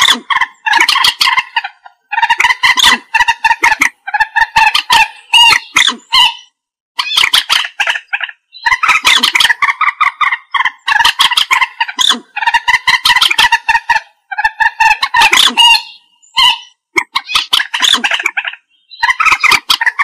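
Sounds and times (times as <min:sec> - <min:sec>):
moorhen calling: 0:00.0 - 0:20.0.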